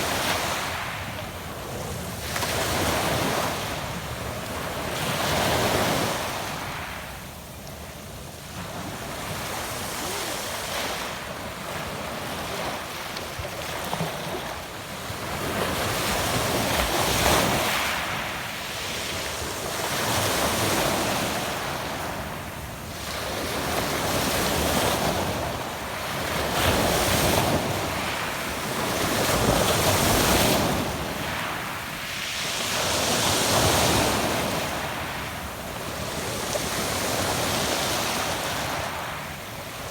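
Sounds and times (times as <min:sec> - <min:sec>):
waves over a pebble beach: 0:00.0 - 0:07.4, 0:08.2 - 0:39.9.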